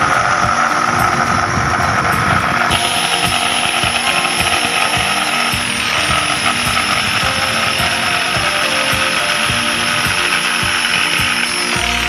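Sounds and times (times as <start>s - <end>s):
jigsaw cutting wood: 0.0s - 12.0s.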